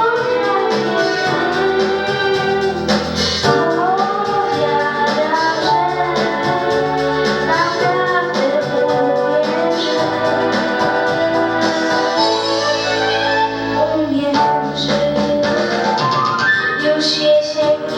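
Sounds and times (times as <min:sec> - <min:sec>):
girl singing: 0:00.0 - 0:15.8, 0:16.7 - 0:17.9
instrumental backing music: 0:00.0 - 0:17.9.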